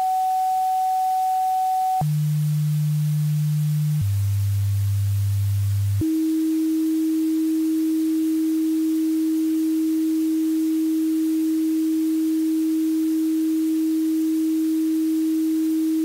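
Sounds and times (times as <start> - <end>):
low electronic sine tone: 0.0 - 16.0.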